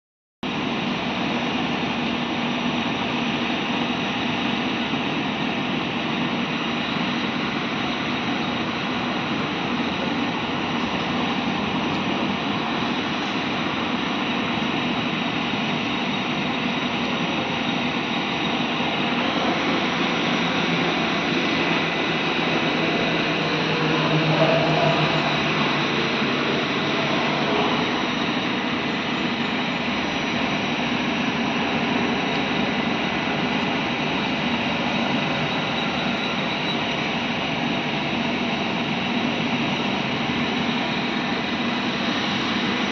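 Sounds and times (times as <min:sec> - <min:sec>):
low engine hum: 0:00.5 - 0:42.9.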